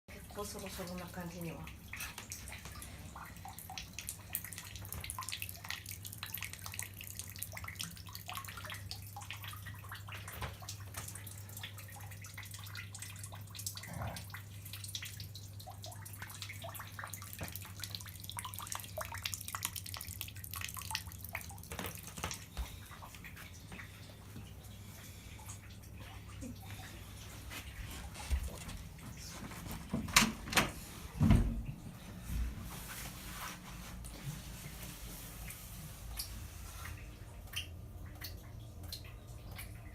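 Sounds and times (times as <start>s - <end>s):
water splashing and dripping: 0.1s - 39.9s.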